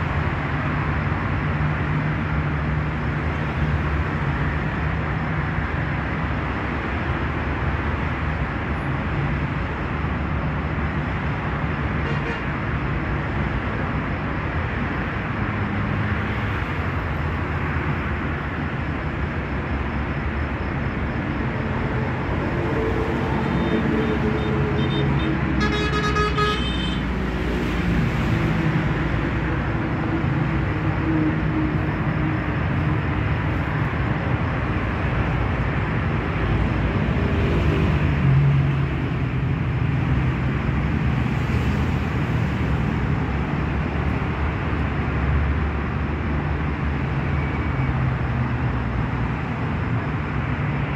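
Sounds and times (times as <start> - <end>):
road traffic noise: 0.0 - 50.9.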